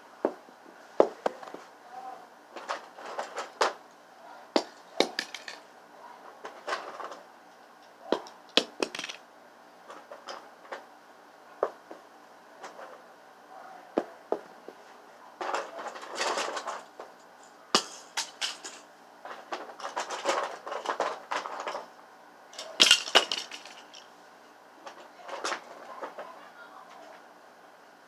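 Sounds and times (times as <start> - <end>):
rustling and clattering of objects: 0.3 - 1.8, 2.5 - 4.0, 4.6 - 9.2, 9.8 - 10.9, 11.6 - 13.1, 14.0 - 22.0, 22.6 - 27.3.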